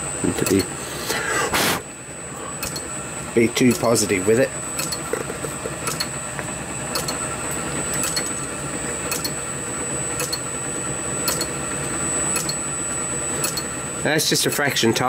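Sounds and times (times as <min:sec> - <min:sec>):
motor with high whine: 0:00.0 - 0:15.0.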